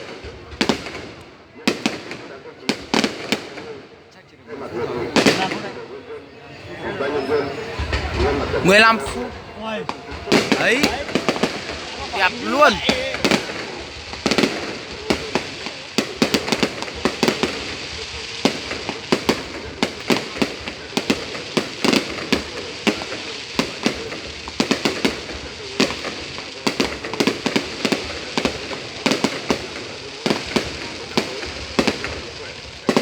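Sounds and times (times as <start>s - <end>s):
fireworks bangs and crackling: 0.0s - 6.2s, 7.1s - 33.0s.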